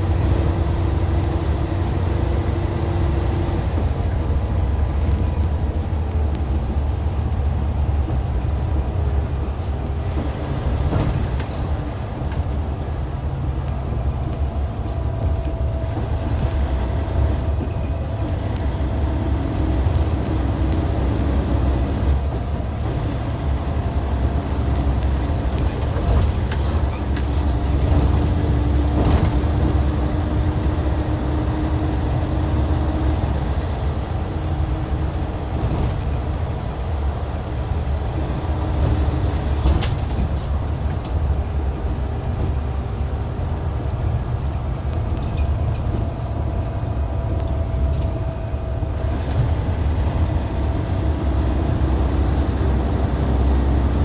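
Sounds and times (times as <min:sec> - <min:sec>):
diesel coach engine droning: 0:00.0 - 0:54.0.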